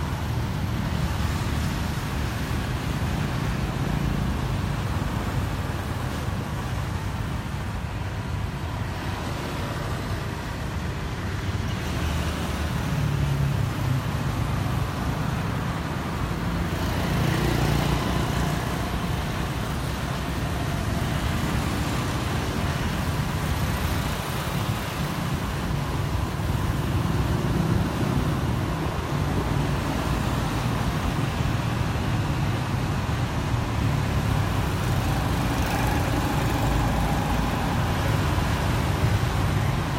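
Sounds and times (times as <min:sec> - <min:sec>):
road traffic drone: 0:00.0 - 0:39.9.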